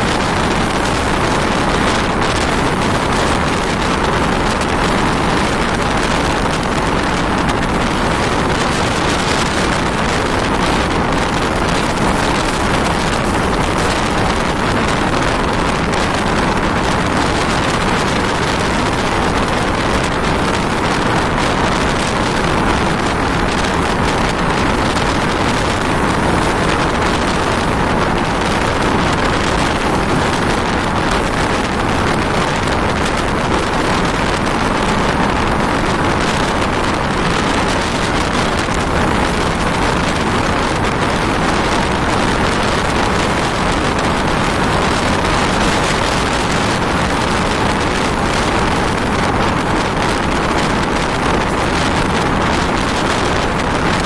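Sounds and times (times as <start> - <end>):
train wheel and track noise: 0.0 - 54.0
wind on microphone: 0.0 - 54.0.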